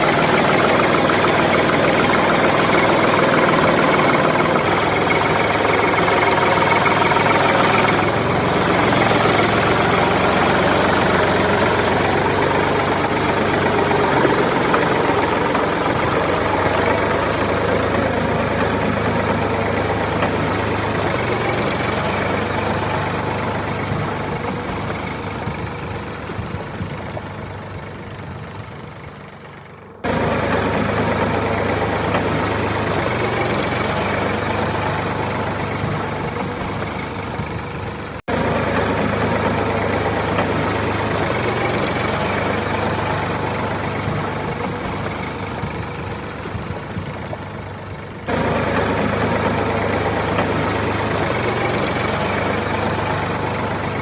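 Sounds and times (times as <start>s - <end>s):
small engine idling: 0.0s - 54.0s.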